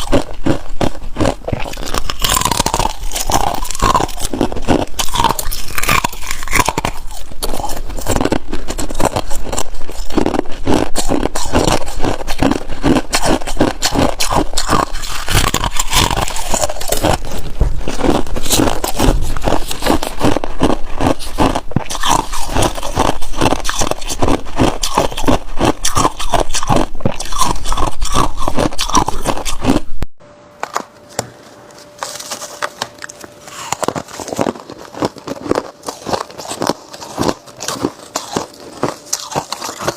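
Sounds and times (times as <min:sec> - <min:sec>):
ice crunching being chewed: 0:00.0 - 0:29.9, 0:31.8 - 0:39.9.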